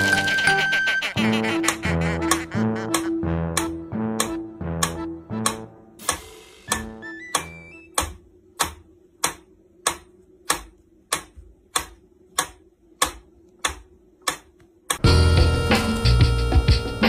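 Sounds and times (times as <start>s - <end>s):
metronome ticking: 0.0s - 15.0s.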